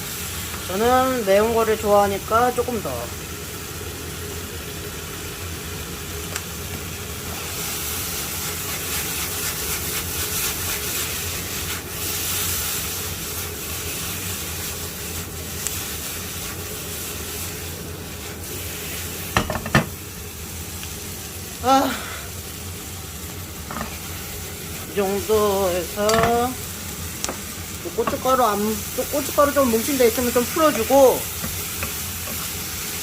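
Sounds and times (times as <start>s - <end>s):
meat sizzling in a pan: 0.0s - 33.0s.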